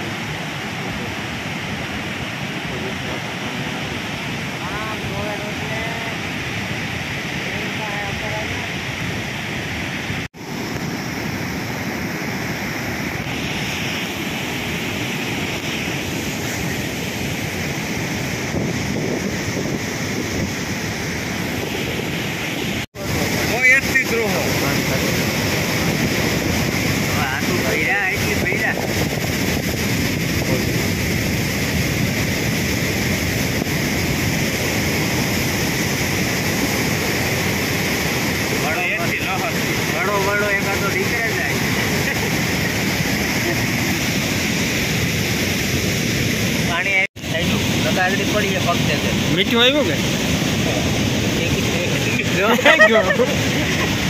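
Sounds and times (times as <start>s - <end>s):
surf pounding on shore: 0.0s - 54.0s
water rushing over rocks: 0.0s - 54.0s
wind buffeting microphone: 0.0s - 54.0s.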